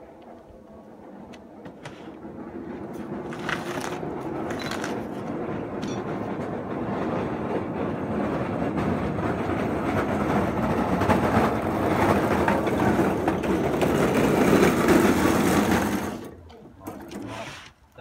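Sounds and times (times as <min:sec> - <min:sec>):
diesel locomotive engine: 0:00.0 - 0:18.0.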